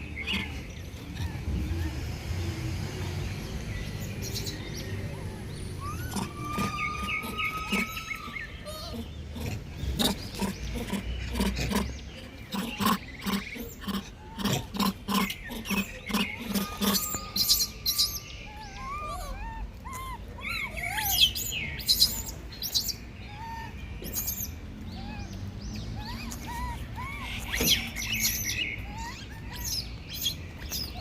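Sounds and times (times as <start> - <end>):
monkeys calling harshly: 0.0 - 2.5, 4.0 - 31.0
birds chirping: 0.0 - 31.0.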